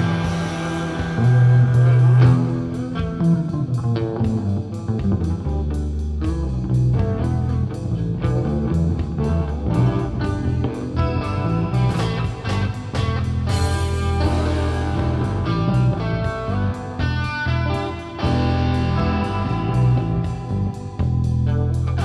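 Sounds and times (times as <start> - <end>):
guitar-driven rock music: 0.0 - 22.0.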